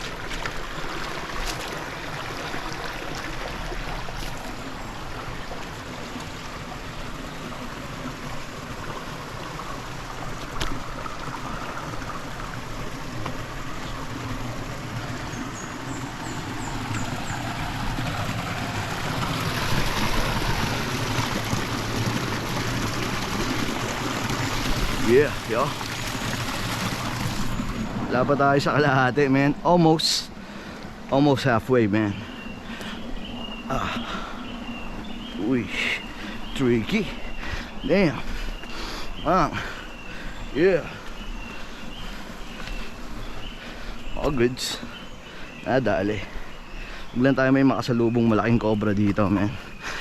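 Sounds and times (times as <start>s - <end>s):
flowing river water: 0.0s - 50.0s.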